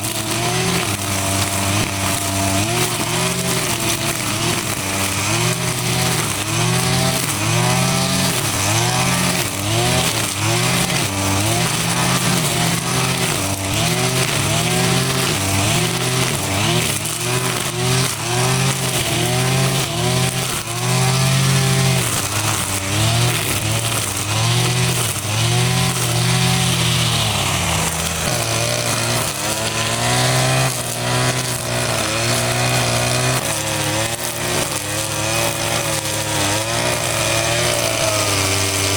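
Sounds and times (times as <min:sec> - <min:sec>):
small petrol engine revving: 0:00.0 - 0:38.9.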